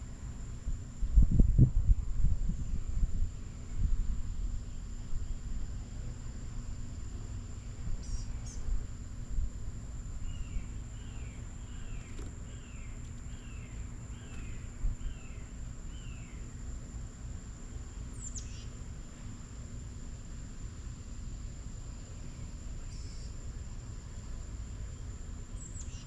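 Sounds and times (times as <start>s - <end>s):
high insect drone: 0.0s - 26.0s
low background rumble: 0.0s - 26.0s.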